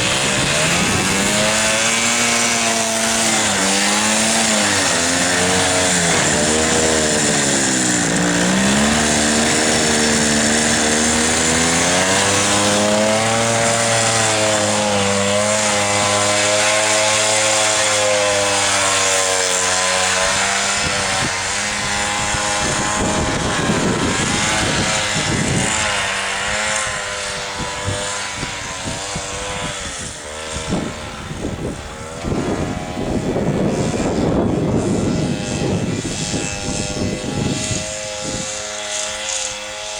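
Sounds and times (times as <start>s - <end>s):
loud rushing gusts: 0.0s - 15.2s, 20.2s - 38.6s
snowmobile engine revving: 0.0s - 39.9s.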